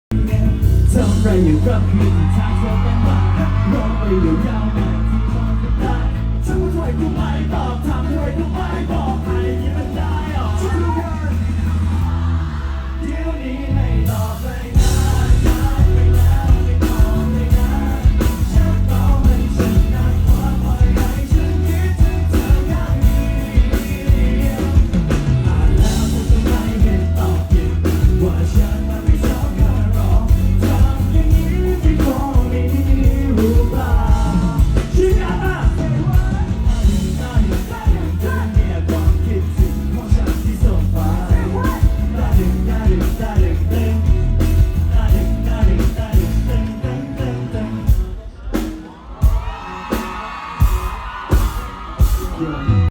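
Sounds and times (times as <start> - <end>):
rock song with singing: 0.1 - 52.9.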